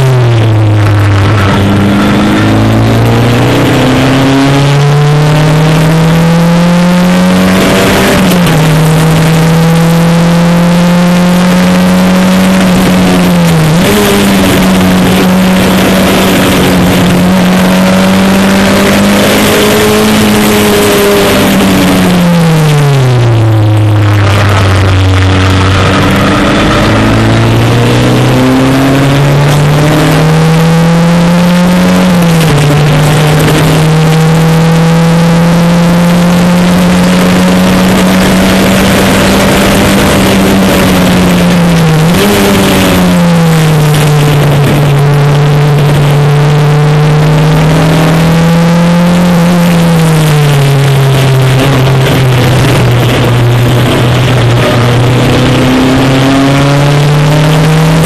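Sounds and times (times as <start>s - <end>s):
race car engine accelerating: 0.0s - 58.0s
wind and road noise: 0.0s - 58.0s.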